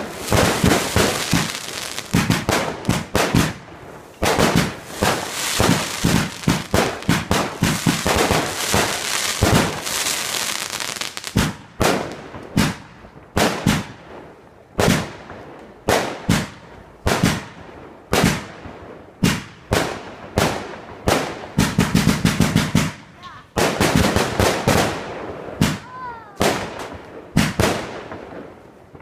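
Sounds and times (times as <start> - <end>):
firework bursts echoing: 0.0 - 29.0
fireworks bangs and crackle: 0.0 - 29.0.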